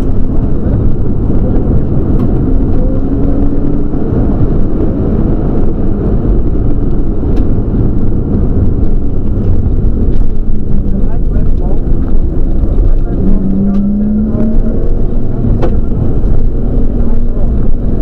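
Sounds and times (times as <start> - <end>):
car engine running at speed: 0.0 - 18.0
road noise: 0.0 - 18.0.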